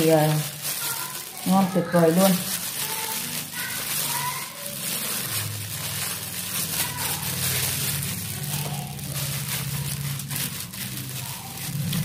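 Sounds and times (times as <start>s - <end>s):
crinkling plastic glove: 0.0s - 12.0s
wet rubbing of raw meat: 0.0s - 12.0s.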